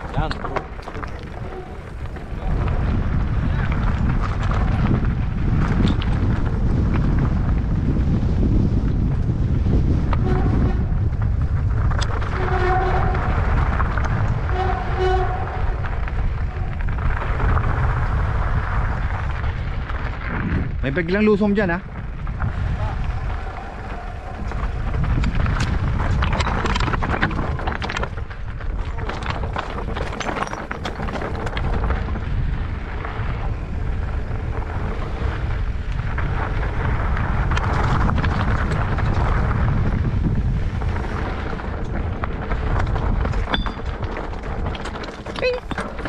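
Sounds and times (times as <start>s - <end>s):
bike rattles and knocks: 0.0s - 46.0s
wind rushing over microphone: 0.0s - 46.0s.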